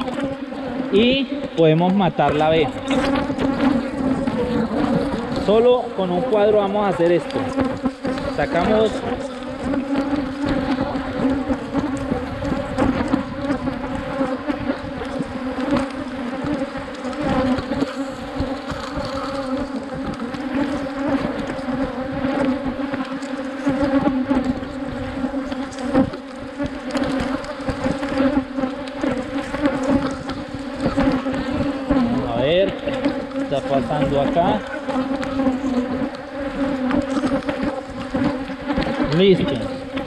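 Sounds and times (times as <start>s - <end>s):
bees buzzing loudly: 0.0s - 40.0s.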